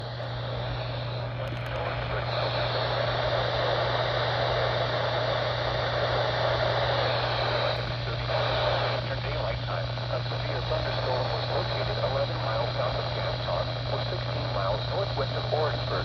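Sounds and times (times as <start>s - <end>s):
constant low hum: 0.0s - 16.0s
radio static hiss: 0.0s - 16.0s.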